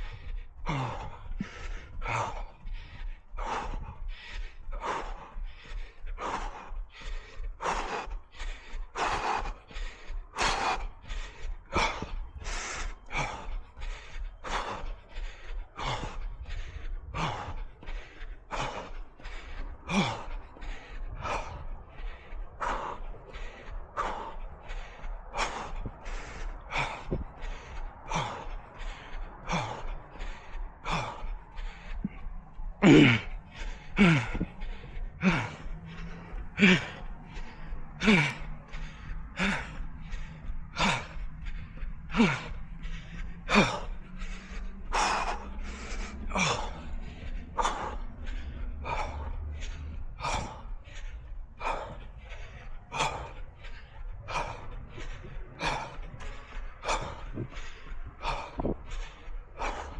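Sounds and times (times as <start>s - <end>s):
low rumble: 0.0s - 59.9s
runner breathing hard: 0.0s - 59.9s.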